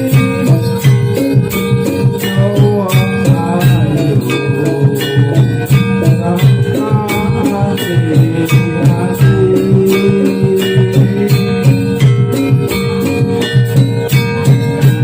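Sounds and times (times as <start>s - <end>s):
jingling percussion: 0.0s - 15.0s
percussion ensemble music: 0.0s - 15.0s.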